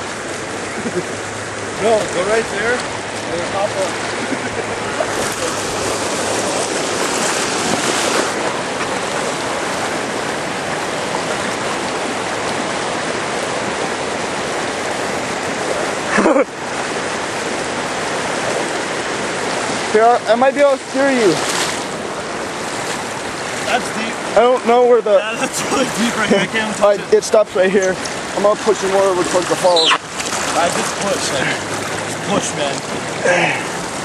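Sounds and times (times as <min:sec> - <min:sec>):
water flowing in a stream: 0:00.0 - 0:34.0.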